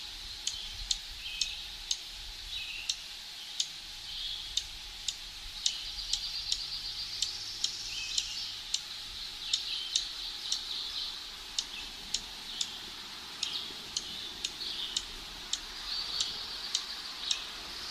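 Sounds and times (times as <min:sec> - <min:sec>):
bird chip calls: 0:00.5 - 0:04.7, 0:05.6 - 0:17.9.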